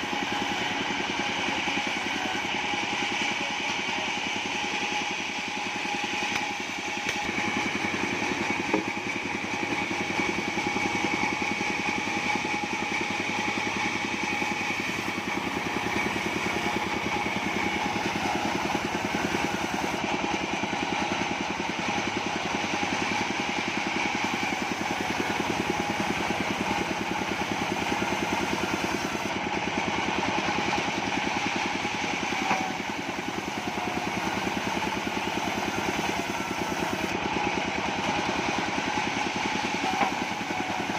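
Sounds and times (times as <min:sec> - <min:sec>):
bandsaw high whine: 0:00.0 - 0:40.9.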